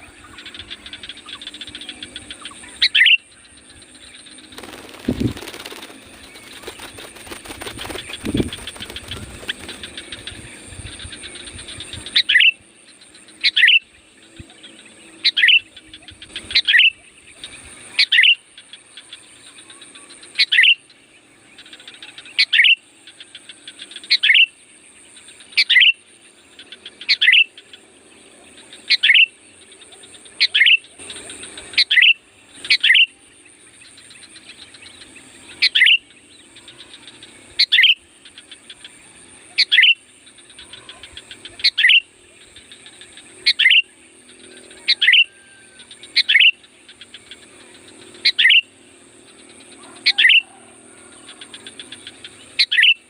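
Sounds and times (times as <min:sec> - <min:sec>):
high insect buzz: 0:00.0 - 0:53.0.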